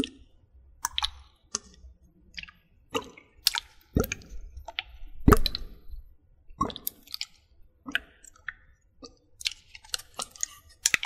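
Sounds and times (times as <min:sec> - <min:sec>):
water plops and squishes: 0:00.0 - 0:11.0.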